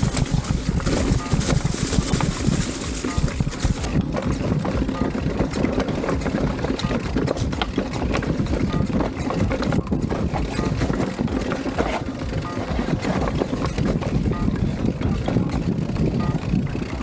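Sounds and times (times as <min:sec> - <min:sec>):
bike rattles and knocks: 0:00.0 - 0:17.0
bike tyre rumble: 0:00.0 - 0:17.0
wind buffeting microphone: 0:00.0 - 0:17.0.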